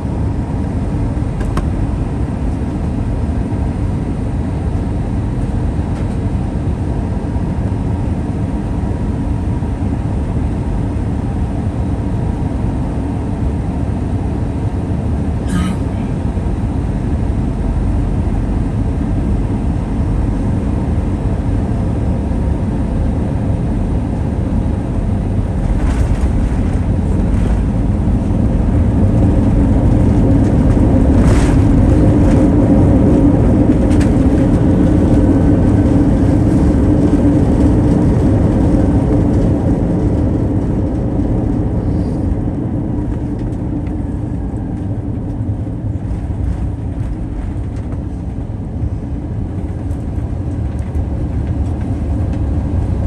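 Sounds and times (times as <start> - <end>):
engine and airflow rumble: 0.0 - 53.0.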